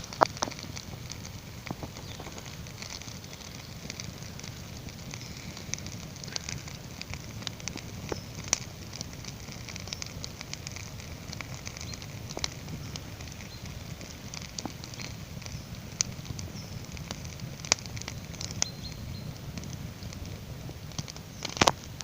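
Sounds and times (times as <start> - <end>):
campfire crackling: 0.0 - 22.0
sharp pops: 0.0 - 22.0.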